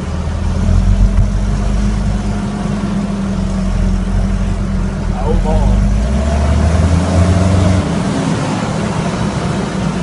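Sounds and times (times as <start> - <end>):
unmuffled diesel engine running: 0.0 - 10.0.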